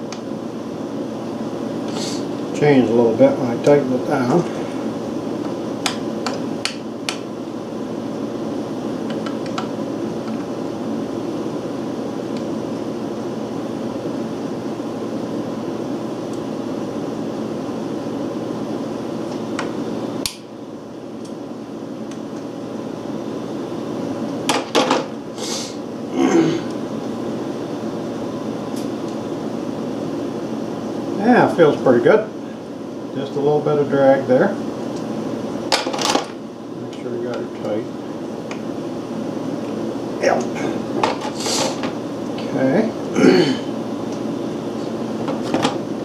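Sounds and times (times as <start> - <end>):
steady mechanical hum: 0.0 - 46.0.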